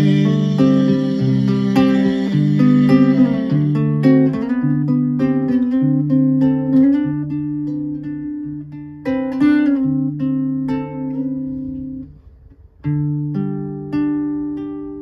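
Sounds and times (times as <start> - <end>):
acoustic guitar strummed chords: 0.0 - 12.2.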